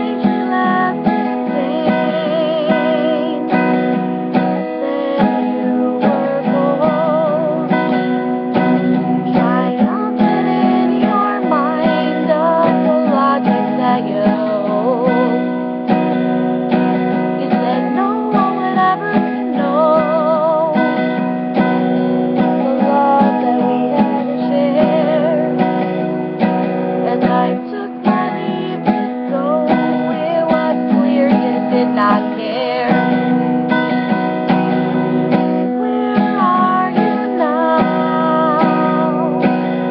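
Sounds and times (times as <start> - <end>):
acoustic guitar strumming: 0.0 - 39.9
woman singing: 0.0 - 39.9.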